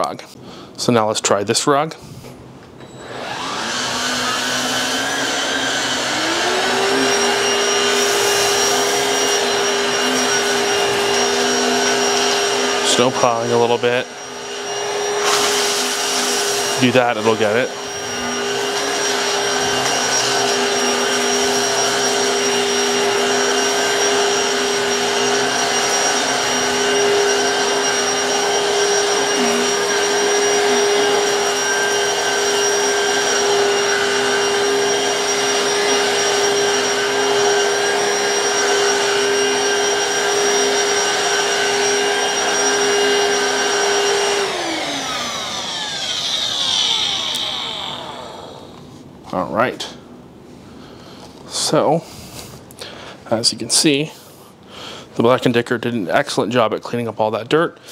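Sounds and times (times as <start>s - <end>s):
vacuum cleaner motor whine: 2.8s - 49.8s.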